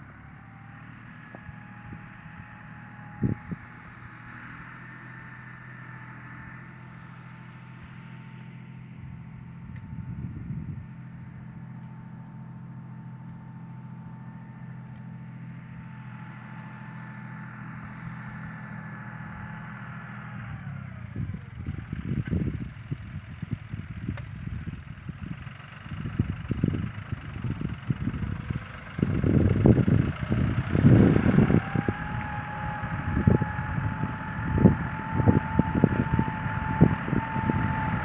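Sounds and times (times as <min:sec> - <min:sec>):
tractor diesel engine running: 0:00.0 - 0:38.0
whine over engine: 0:00.0 - 0:38.0.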